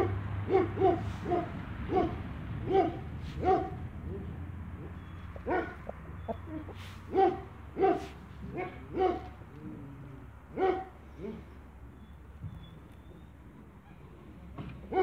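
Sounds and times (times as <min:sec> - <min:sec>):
roosters clucking: 0:00.0 - 0:15.0.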